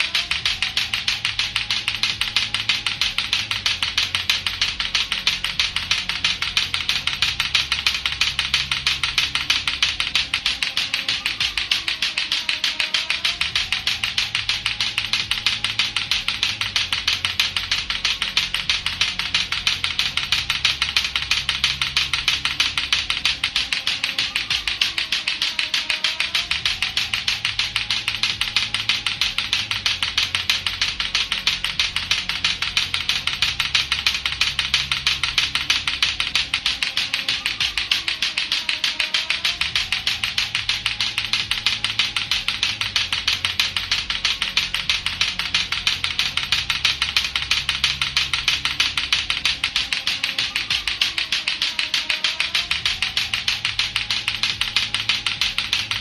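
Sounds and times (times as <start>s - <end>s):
background music with bass line: 0.0s - 56.0s
clacker toy clacking: 0.0s - 56.0s.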